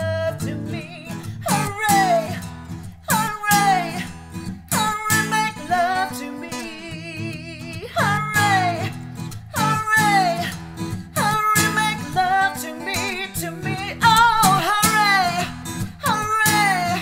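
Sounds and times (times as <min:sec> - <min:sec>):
strummed acoustic guitar: 0:00.0 - 0:17.0
woman singing: 0:00.0 - 0:17.0.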